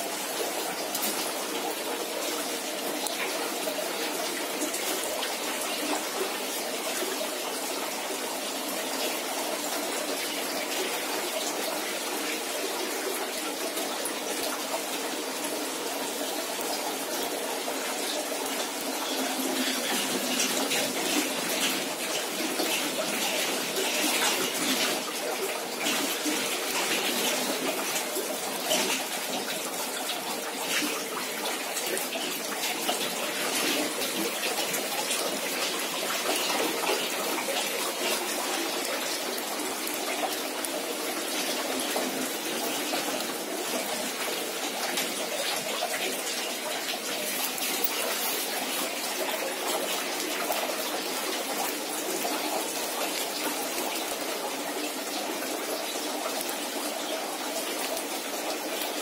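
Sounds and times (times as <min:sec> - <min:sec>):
water running steadily: 0:00.0 - 0:59.0.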